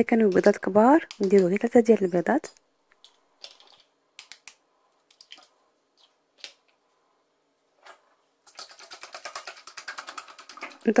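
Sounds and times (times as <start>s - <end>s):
eggs beaten in steel bowl: 0.0s - 6.7s, 8.4s - 11.0s.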